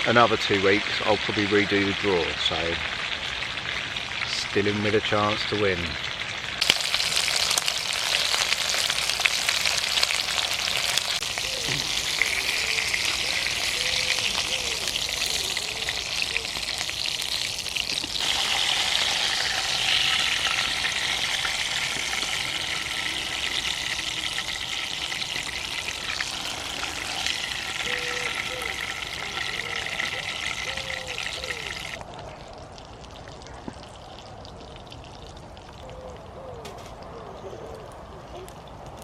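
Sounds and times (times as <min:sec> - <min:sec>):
sausages and bacon sizzling: 0:00.0 - 0:32.0.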